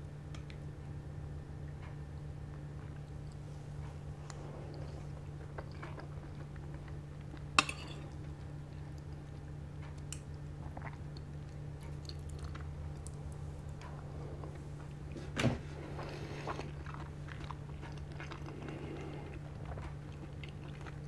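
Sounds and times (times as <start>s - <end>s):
steady low hum: 0.0s - 21.0s
person chewing food: 2.4s - 21.0s.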